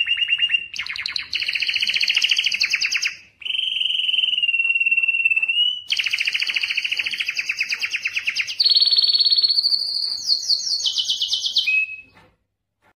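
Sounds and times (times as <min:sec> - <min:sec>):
canary singing trills: 0:00.0 - 0:12.2.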